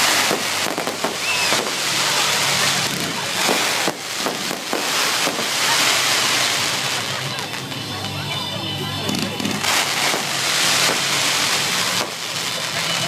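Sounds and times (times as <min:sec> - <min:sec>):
fireworks sharp bangs: 0:00.0 - 0:08.2, 0:09.0 - 0:13.0
fireworks crackling hiss: 0:00.0 - 0:13.0.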